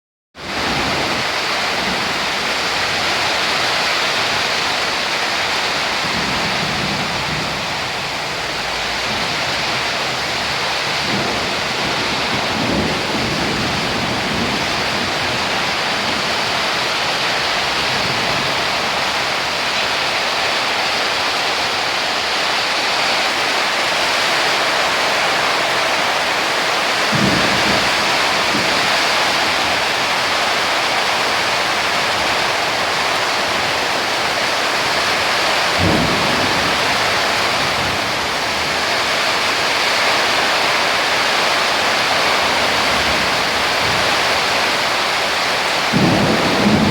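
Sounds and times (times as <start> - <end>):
heavy rain pouring: 0.4 - 46.9
thunder rumbling: 0.4 - 46.9.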